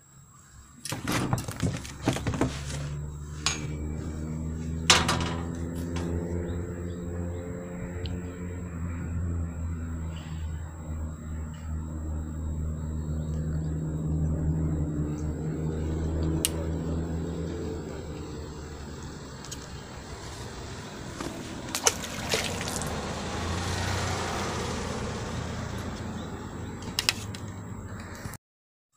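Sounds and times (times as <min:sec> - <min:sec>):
vehicle engine running: 0:00.9 - 0:28.2.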